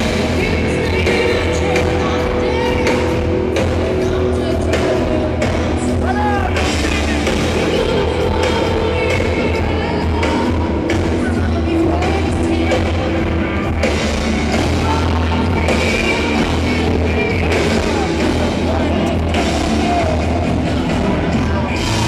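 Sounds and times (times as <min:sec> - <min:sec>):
loud rock music with singing: 0:00.0 - 0:22.0.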